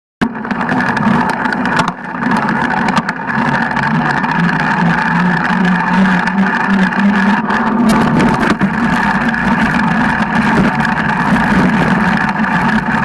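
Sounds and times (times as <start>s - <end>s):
bike suspension clicks and knocks: 0.2s - 13.0s
mountain bike rolling hum: 0.2s - 13.0s.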